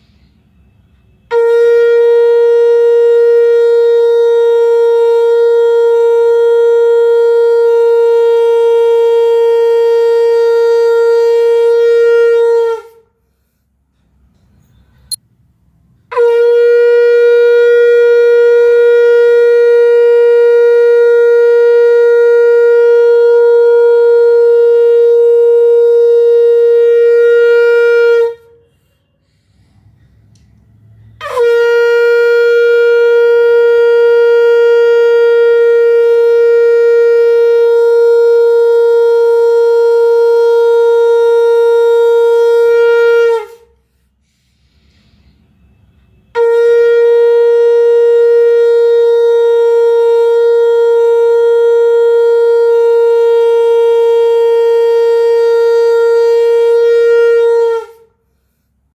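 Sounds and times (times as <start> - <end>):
conch shell blasts: 0.6 - 13.1, 16.1 - 30.0, 30.7 - 43.8, 44.8 - 58.3.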